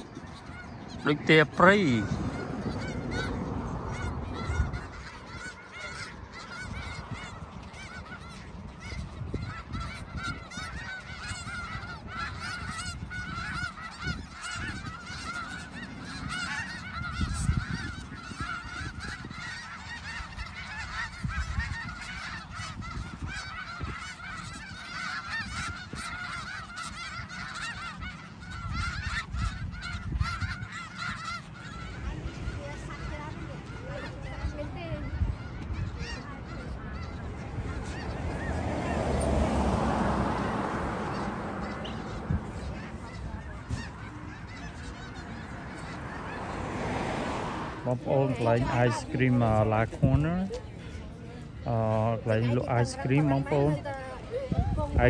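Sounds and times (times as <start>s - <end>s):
geese honking: 0.0s - 55.0s.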